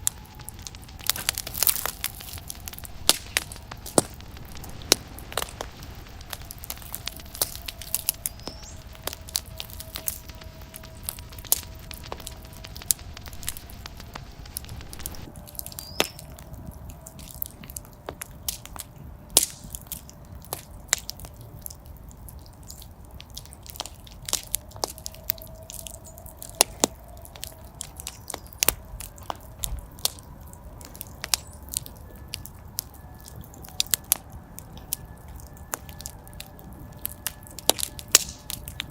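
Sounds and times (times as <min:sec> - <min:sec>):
faint thin whistle: 0:00.0 - 0:21.2, 0:22.6 - 0:38.9
fire hissing: 0:00.0 - 0:38.9
wood fire crackling and popping: 0:00.0 - 0:38.9.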